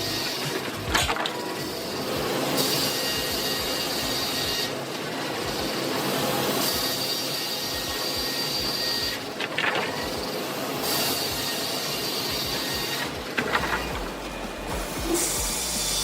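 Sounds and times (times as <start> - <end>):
saw cutting through log: 0.0 - 16.0.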